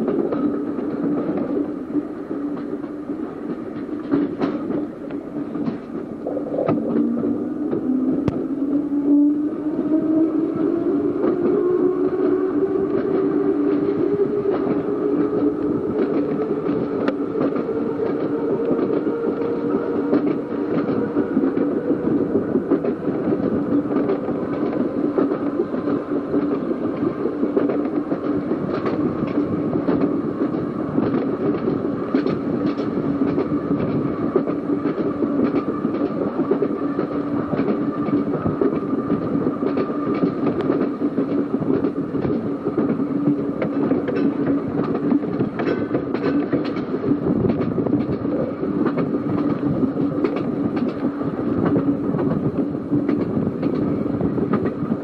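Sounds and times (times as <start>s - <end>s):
tram motor whine: 0.0s - 55.0s
wheels clicking over rail joints: 10.8s - 55.0s.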